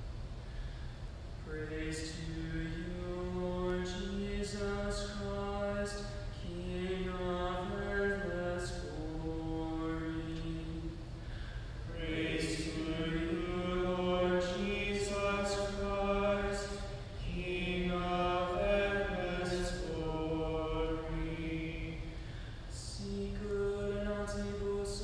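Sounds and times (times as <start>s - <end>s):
man singing chant: 1.4s - 11.0s, 11.9s - 25.0s.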